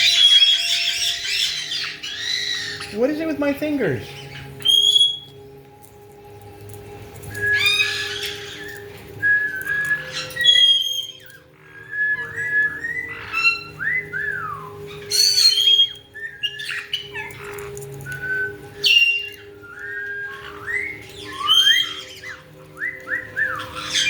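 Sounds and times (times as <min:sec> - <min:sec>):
parrots squawking: 0:00.0 - 0:05.4, 0:07.2 - 0:24.0
parrots whistling: 0:00.0 - 0:05.6, 0:06.6 - 0:24.0.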